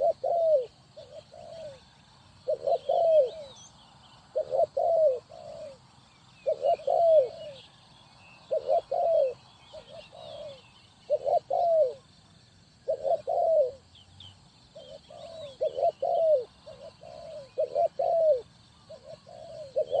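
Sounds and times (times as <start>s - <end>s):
dove cooing: 0.0s - 12.1s, 12.8s - 20.0s.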